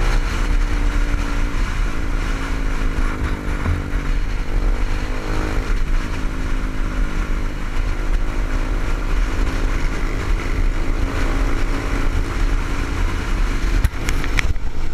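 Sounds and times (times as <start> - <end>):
motorcycle engine running: 0.0 - 14.9
wind rumble on microphone: 0.0 - 14.9.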